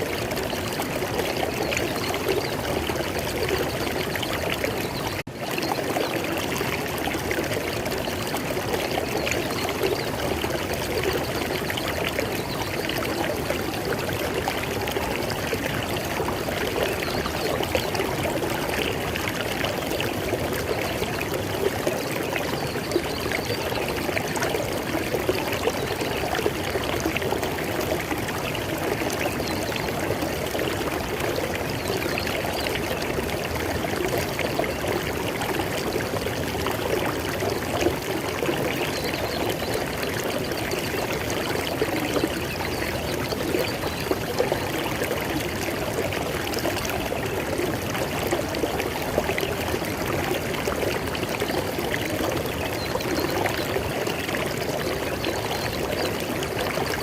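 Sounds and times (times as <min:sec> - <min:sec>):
river water over stones: 0:00.0 - 0:57.0.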